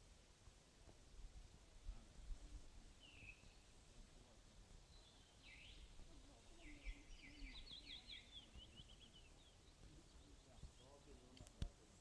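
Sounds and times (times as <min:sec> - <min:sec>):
faint songbird singing: 0:02.3 - 0:12.0.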